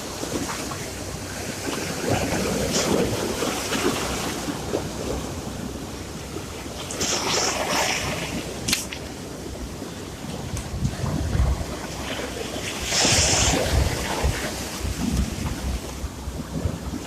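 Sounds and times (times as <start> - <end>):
sea waves washing in: 0.0 - 17.0.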